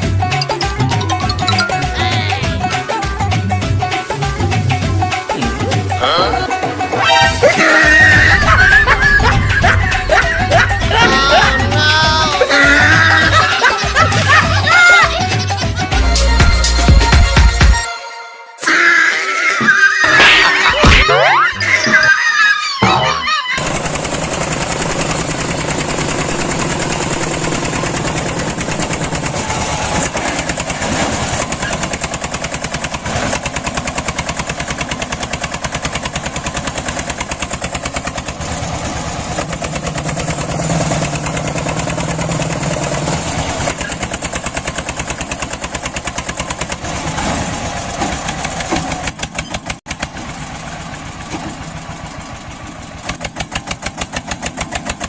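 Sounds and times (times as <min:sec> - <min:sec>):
small tractor engine running: 0:00.0 - 0:17.5, 0:23.6 - 0:55.0.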